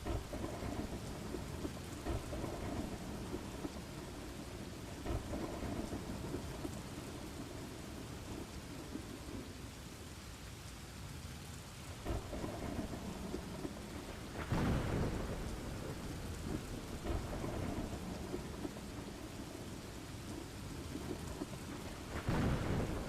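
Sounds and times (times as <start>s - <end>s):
loud thunderclap: 0.0s - 7.6s, 12.0s - 23.0s
thunder rumbling: 0.0s - 9.7s, 11.9s - 23.0s
steady rain: 0.0s - 23.0s.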